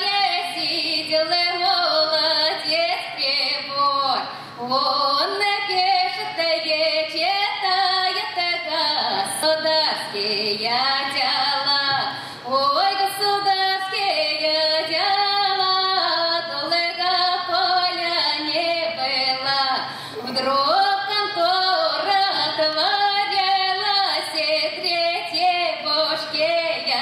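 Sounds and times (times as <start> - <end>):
woman singing folk song: 0.0 - 27.0.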